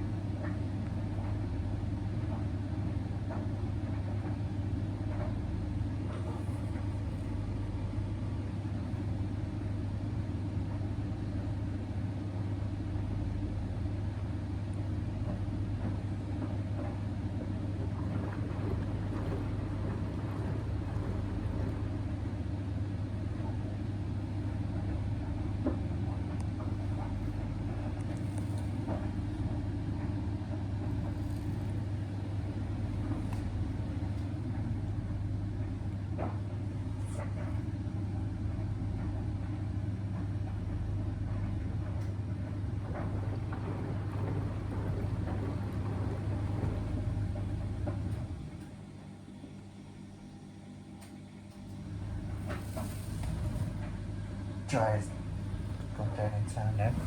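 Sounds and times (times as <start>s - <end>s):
laundry appliance motor humming: 0.0s - 57.0s.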